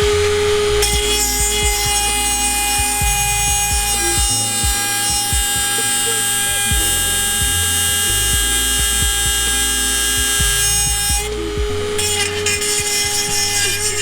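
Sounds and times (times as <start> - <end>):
rotary tool grinding metal: 0.0 - 14.0.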